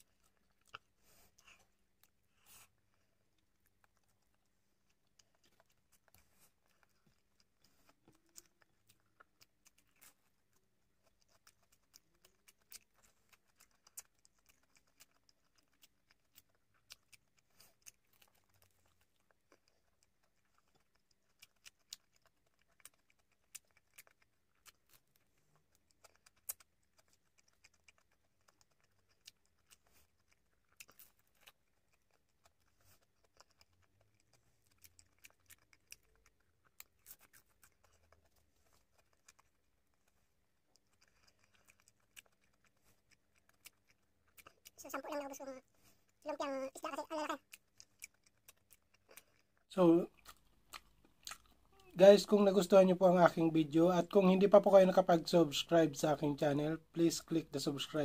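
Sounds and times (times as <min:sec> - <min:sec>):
chewing: 0:00.0 - 0:58.0.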